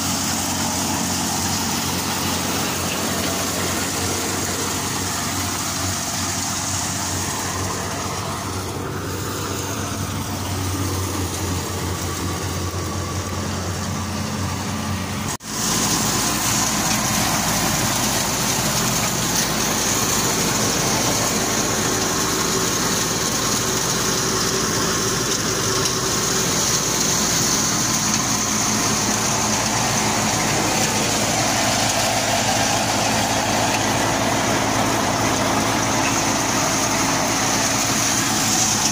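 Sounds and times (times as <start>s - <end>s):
hiss of threshed material: 0.0s - 38.9s
threshing machine droning: 0.0s - 38.9s.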